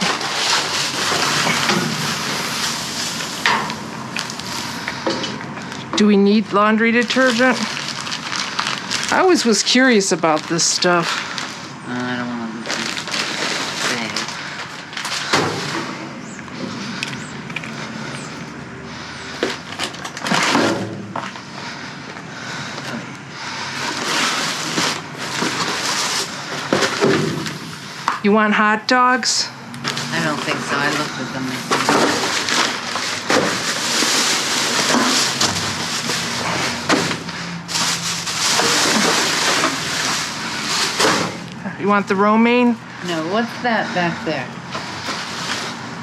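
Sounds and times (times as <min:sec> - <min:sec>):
bags rustling and knocking: 0:00.0 - 0:28.2, 0:29.8 - 0:41.7, 0:44.6 - 0:46.0.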